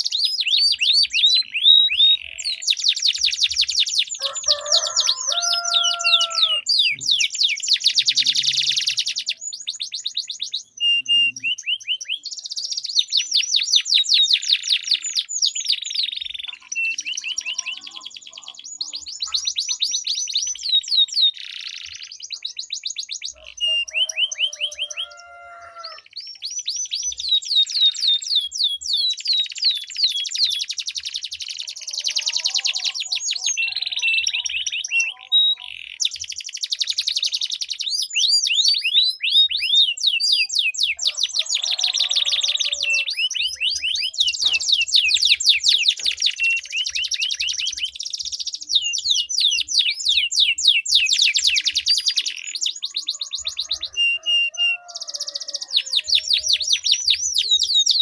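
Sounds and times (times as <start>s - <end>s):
canaries singing rolling trills: 0.0s - 58.0s
lower steady bird call: 0.0s - 58.0s.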